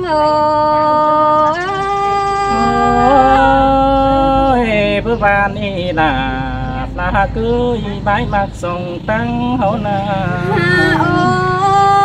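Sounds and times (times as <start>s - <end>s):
two voices singing folk song: 0.0s - 12.0s.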